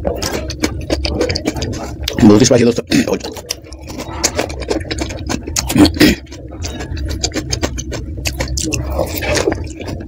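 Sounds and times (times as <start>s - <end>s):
crunchy food chewing: 0.0s - 10.0s.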